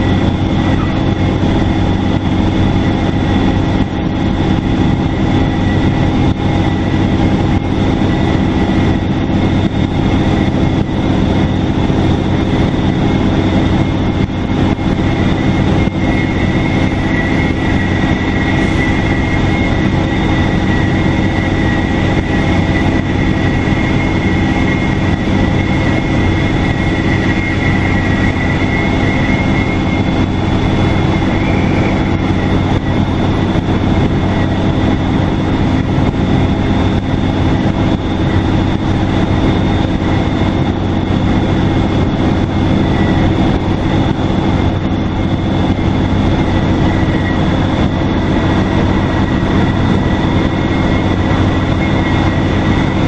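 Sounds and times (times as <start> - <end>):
bus diesel engine drone: 0.0 - 53.0
road noise: 0.0 - 53.0
turbocharger whistle: 0.0 - 53.0.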